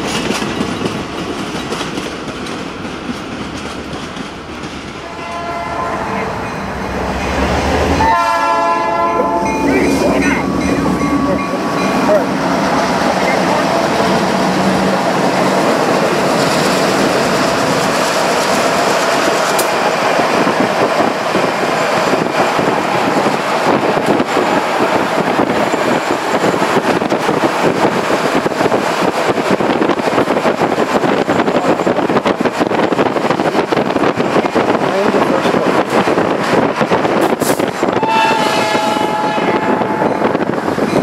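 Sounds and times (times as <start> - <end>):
train wheel and rail noise: 0.0 - 41.0.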